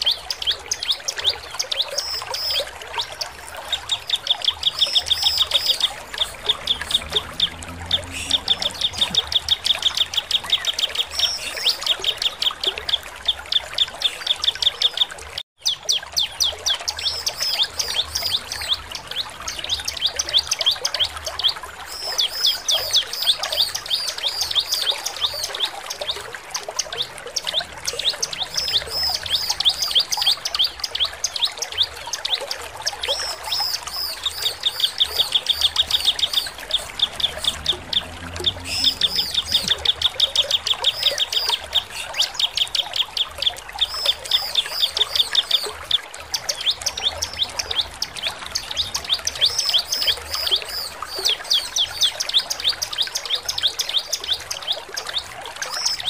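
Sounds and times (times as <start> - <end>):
bird chirping and trilling: 0.0 - 26.2, 26.9 - 56.0.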